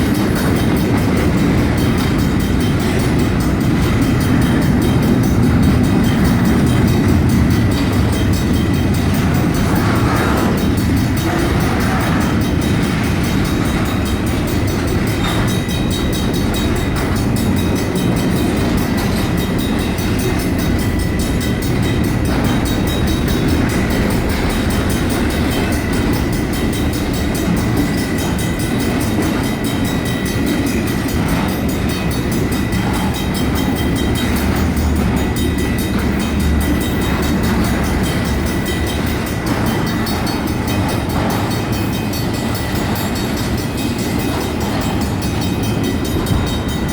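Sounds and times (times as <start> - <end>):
crossing bells ringing: 0.0 - 46.9
freight train rumbling on rails: 0.0 - 46.9.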